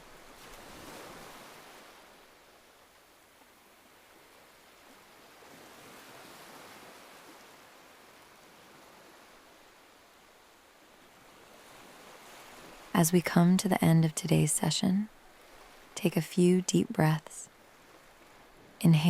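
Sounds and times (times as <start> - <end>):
faint ocean surf: 0.0 - 19.0.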